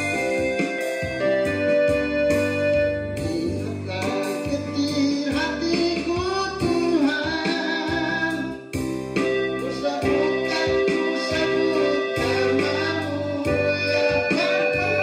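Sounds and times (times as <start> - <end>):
keyboard and guitar accompaniment: 0.0 - 15.0.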